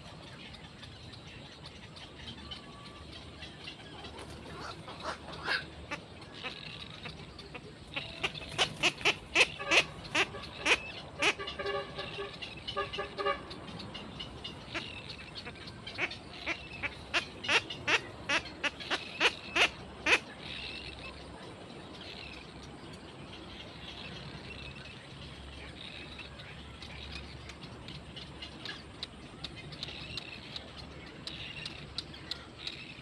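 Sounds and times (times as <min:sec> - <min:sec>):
faint chatter: 0:00.0 - 0:33.0.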